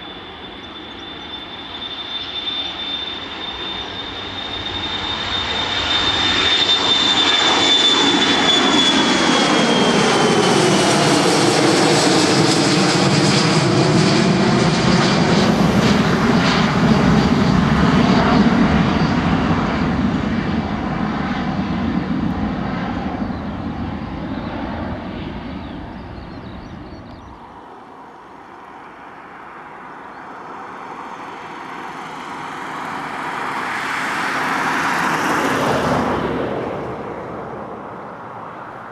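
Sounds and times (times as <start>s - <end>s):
airliner approaching to land: 0.0s - 38.9s
jet airliner taking off: 0.0s - 38.9s.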